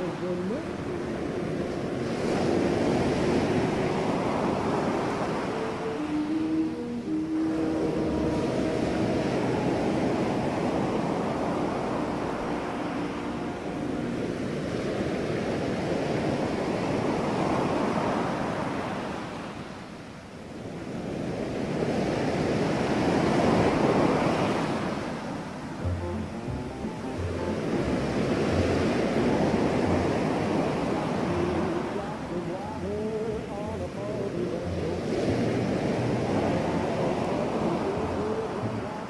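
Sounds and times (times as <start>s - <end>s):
ocean waves washing onto beach: 0.0s - 39.0s.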